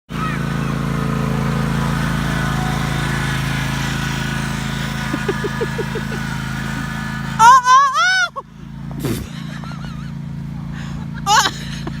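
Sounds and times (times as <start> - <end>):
lawn mower engine running: 0.1 - 12.0.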